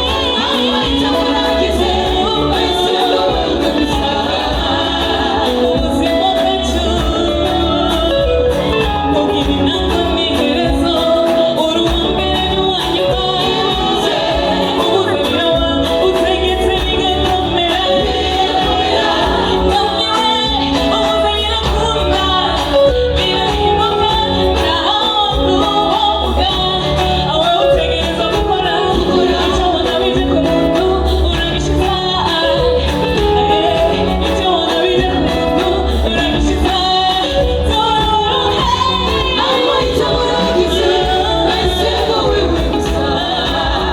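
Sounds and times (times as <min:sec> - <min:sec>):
gospel song with band: 0:00.0 - 0:43.9.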